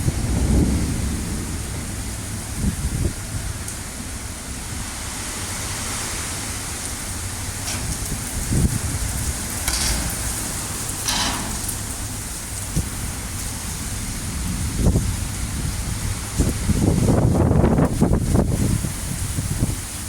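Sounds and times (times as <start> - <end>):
heavy rain pouring: 0.0 - 20.0
wind buffeting microphone: 0.0 - 20.0.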